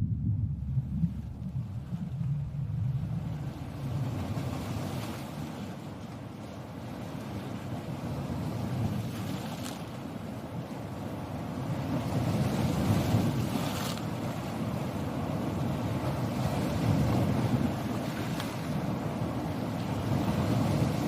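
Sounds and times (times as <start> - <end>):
sea waves washing in: 0.0 - 21.0.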